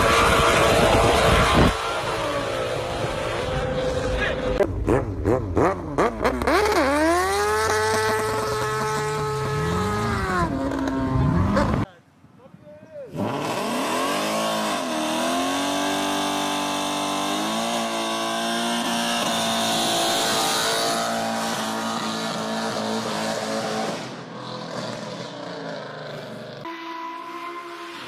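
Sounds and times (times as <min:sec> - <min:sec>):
car engine revving hard: 0:00.0 - 0:11.8, 0:13.2 - 0:26.3.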